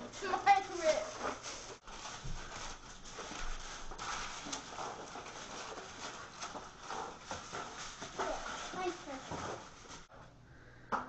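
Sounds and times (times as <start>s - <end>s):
aluminum foil crackling: 0.0s - 10.1s.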